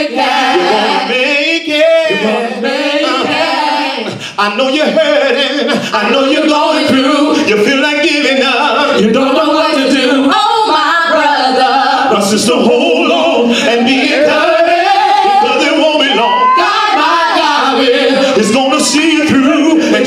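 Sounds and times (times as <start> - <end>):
gospel choir singing: 0.0 - 20.0.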